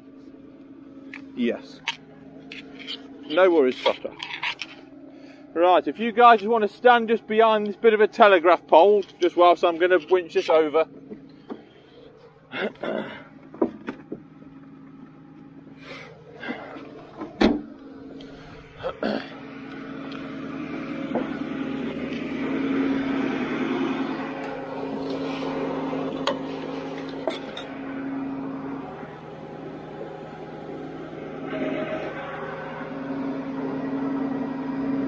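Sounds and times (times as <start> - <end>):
loud mechanical hum: 0.0 - 35.0
truck engine hum: 0.0 - 35.0.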